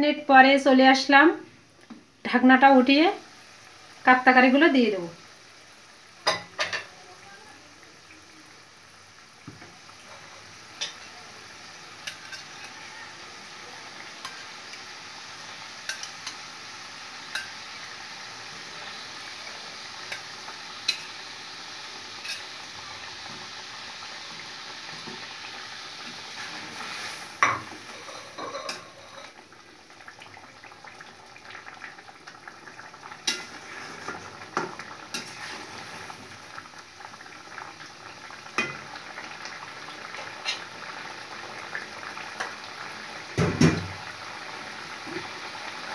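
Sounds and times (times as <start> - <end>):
curry simmering with a hiss: 0.0 - 45.9.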